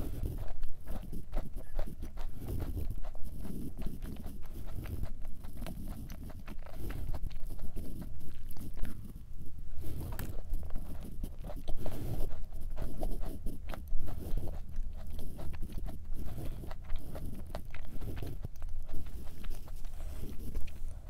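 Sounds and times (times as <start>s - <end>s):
chewing cookie: 0.0s - 21.0s.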